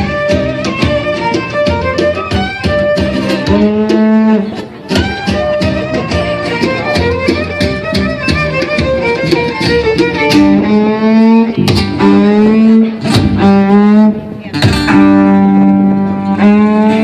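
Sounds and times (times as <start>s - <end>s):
violin playing: 0.0s - 14.3s, 14.9s - 17.0s
strummed guitar: 0.0s - 17.0s.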